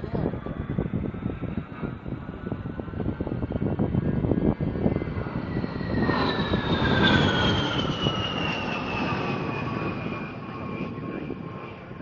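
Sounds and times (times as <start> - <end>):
jet engine whine: 0.0 - 12.0
jet rush: 0.0 - 12.0.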